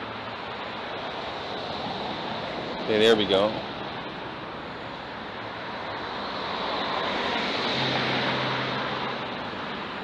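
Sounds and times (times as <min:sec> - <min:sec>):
vehicle driving past: 0:01.0 - 0:10.0.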